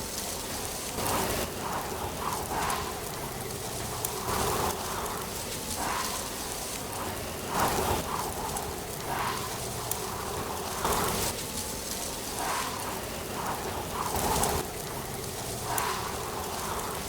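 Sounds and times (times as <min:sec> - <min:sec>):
wind rustling dry leaves: 0:00.0 - 0:17.0.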